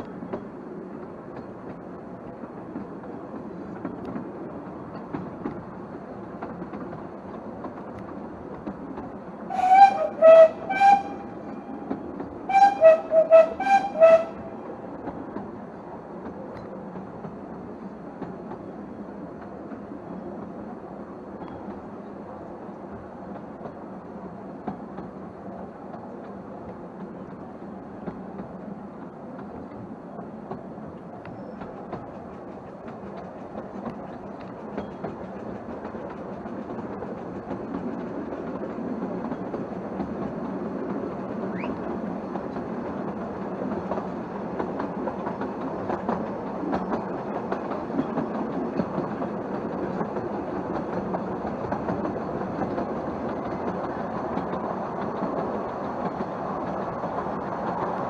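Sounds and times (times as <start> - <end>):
clickety-clack over rail joints: 0.0 - 58.0
train wheels rumbling: 0.0 - 58.0.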